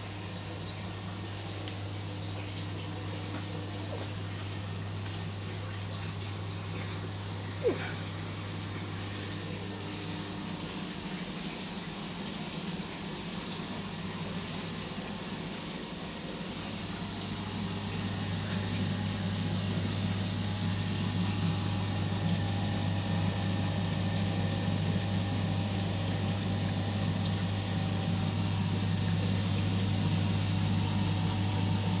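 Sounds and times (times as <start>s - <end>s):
aquarium pump hum: 0.0s - 32.0s
running water rushing: 0.0s - 32.0s.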